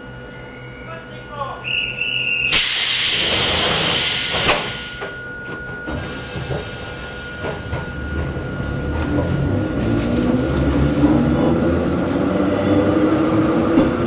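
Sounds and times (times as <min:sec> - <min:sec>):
electric railcar motor whine: 0:00.0 - 0:14.0.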